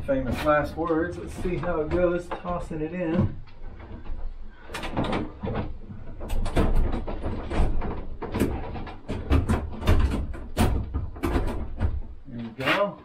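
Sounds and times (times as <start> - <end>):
metal clunks and scrapes: 0.0 - 12.9.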